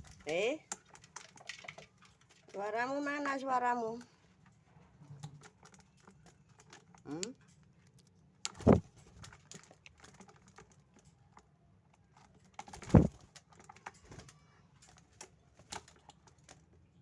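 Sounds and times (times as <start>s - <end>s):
bird clicking and tapping in cage: 0.0s - 4.1s, 5.1s - 16.8s.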